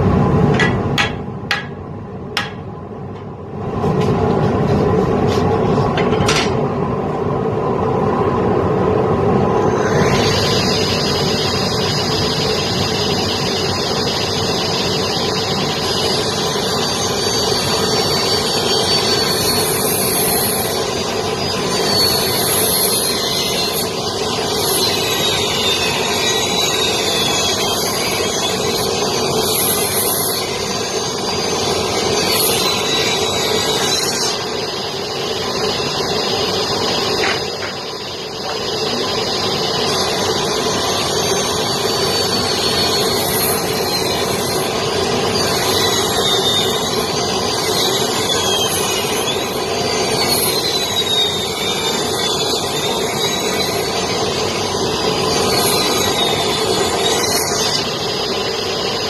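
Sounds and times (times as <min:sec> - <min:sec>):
machine drone: 0:00.0 - 0:59.0
table saw whining: 0:09.5 - 0:59.0
saw cutting through boards: 0:09.7 - 0:39.1, 0:39.7 - 0:59.0.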